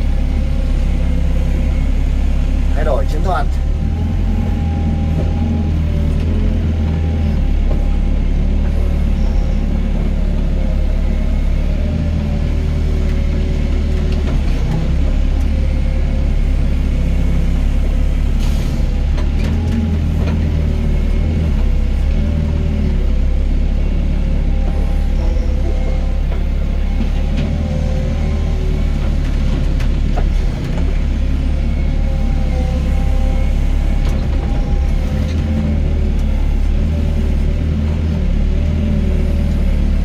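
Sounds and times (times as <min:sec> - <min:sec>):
excavator diesel engine running: 0:00.0 - 0:40.0
hydraulics whining: 0:00.0 - 0:40.0.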